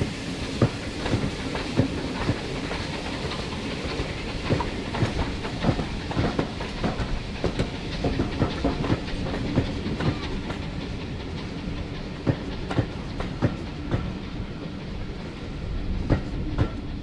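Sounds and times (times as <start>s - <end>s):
train rumbling on track: 0.0s - 17.0s
wheels clicking over rail joints: 0.6s - 17.0s.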